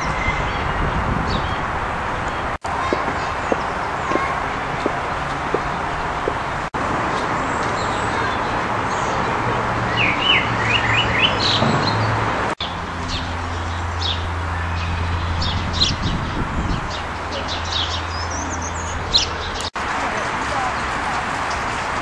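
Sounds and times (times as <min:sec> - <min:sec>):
small birds chirping: 0:00.0 - 0:19.8.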